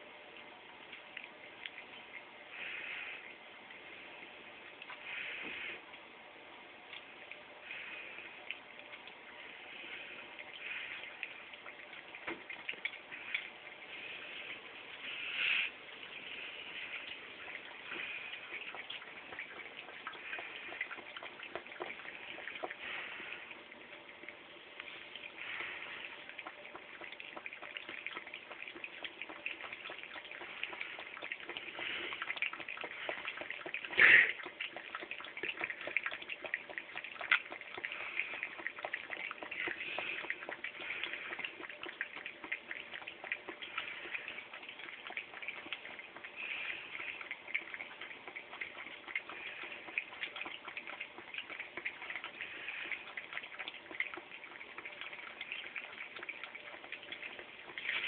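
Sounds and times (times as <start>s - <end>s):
cat lapping water: 0.0s - 58.0s.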